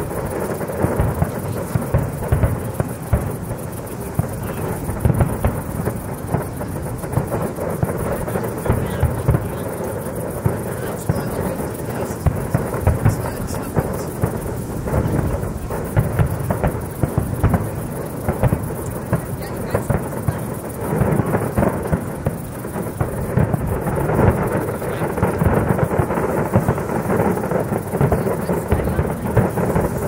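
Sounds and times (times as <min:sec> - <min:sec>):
fireworks bangs and booms: 0:00.0 - 0:30.0.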